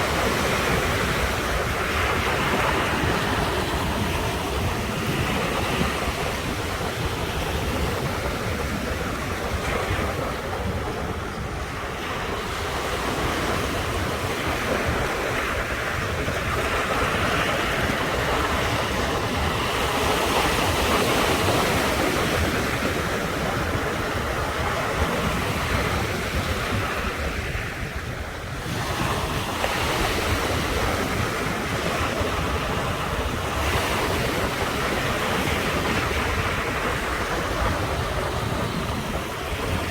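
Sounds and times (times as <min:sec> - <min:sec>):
sea waves breaking on shore: 0:00.0 - 0:39.9
wind rumble on microphone: 0:00.0 - 0:39.9.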